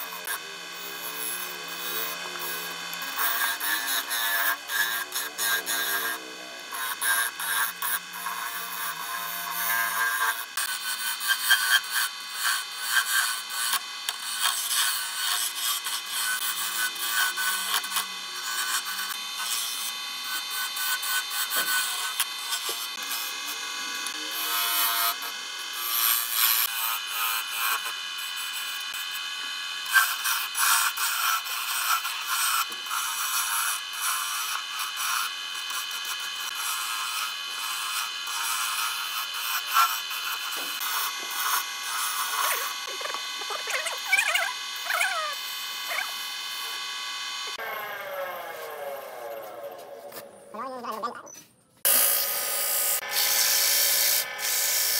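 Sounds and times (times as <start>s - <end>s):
lathe motor whine: 0.0s - 50.6s, 51.8s - 54.9s
chisel scraping spinning wood: 0.0s - 50.7s.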